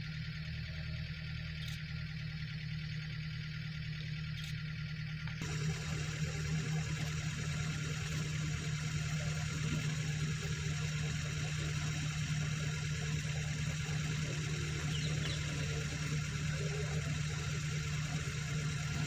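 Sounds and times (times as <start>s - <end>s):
jeep engine idling: 0.0s - 19.0s.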